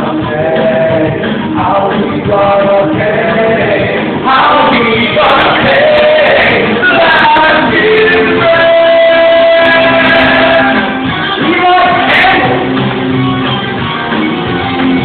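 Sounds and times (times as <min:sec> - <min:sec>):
group of voices singing: 0:00.0 - 0:12.8
music: 0:00.0 - 0:15.0.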